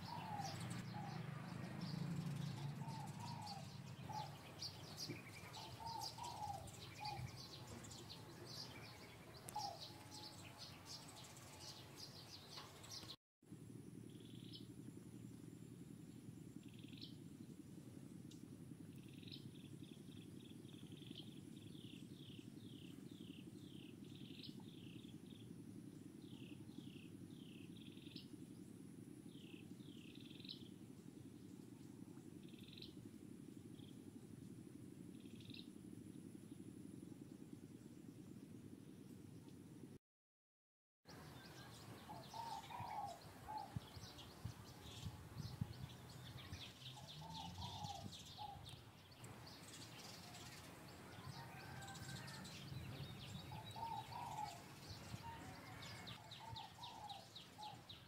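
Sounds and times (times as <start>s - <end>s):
faint birds chirping: 0.0s - 40.0s, 41.1s - 58.0s
steady low hum: 0.0s - 40.0s, 41.1s - 58.0s.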